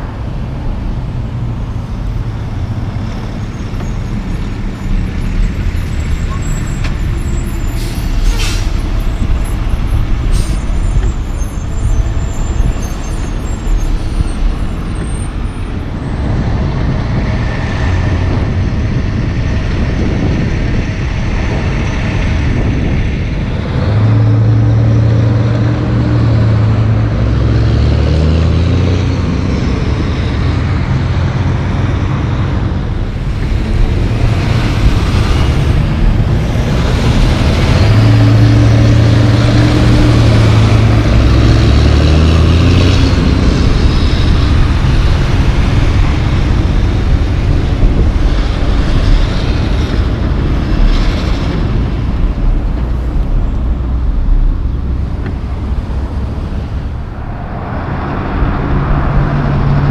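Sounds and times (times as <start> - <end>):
diesel trucks passing: 0.0 - 59.9
traffic: 0.0 - 59.9
truck engine shifting gears: 0.0 - 59.9.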